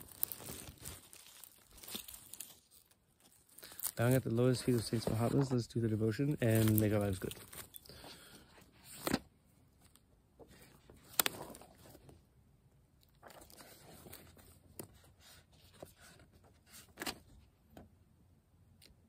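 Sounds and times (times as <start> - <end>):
pages rustling: 0.0 - 12.2, 13.0 - 17.3.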